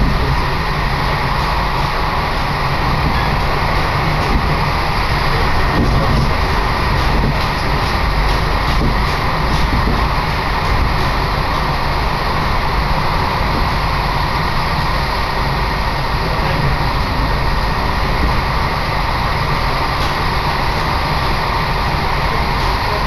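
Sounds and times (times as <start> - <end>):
train running rumble: 0.0 - 23.0.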